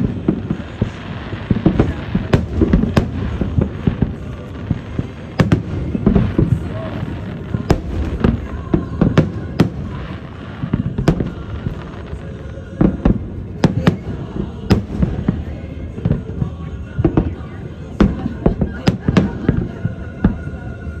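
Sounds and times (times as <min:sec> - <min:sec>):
fireworks bangs and pops: 0:00.0 - 0:21.0.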